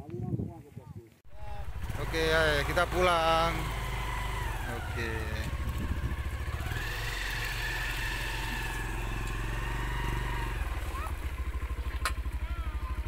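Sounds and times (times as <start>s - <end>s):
motorcycle engine pulling away: 1.3s - 13.0s.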